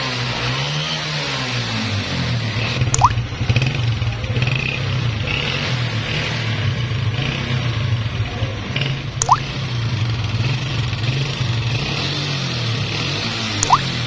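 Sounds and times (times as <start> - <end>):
motorcycle engine running: 2.5 - 14.0.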